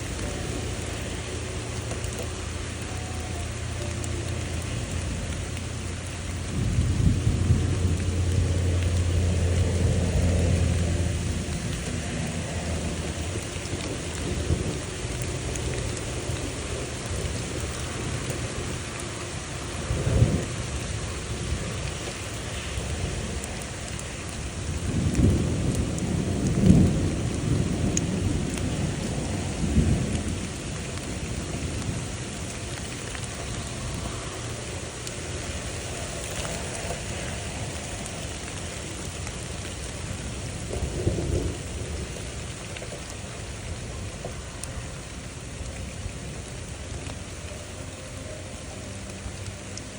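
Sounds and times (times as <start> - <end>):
steady rain: 0.0 - 49.9
rolling thunder: 4.8 - 47.0.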